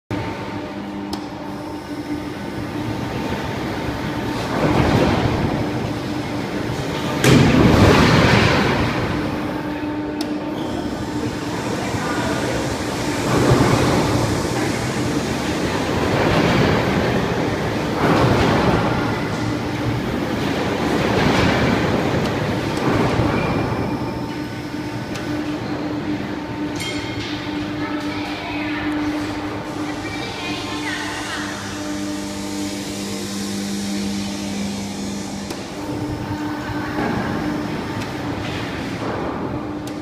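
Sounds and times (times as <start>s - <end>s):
ride drive hum: 0.2s - 40.0s
ride rumbling and clattering: 2.6s - 40.0s.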